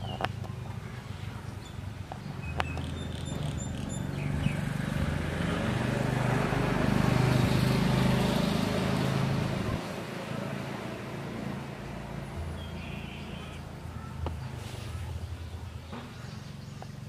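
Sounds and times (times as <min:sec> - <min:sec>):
vehicle engine passing by: 0:02.2 - 0:17.0.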